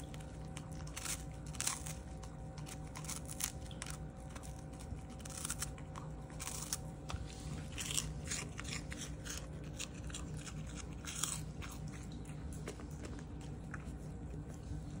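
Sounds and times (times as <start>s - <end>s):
dog crunching on fish: 0.0s - 15.0s.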